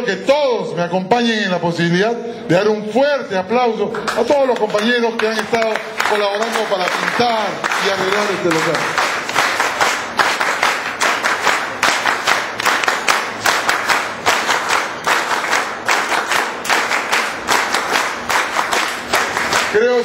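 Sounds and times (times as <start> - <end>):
crowd clapping in rhythm: 3.8 - 20.0.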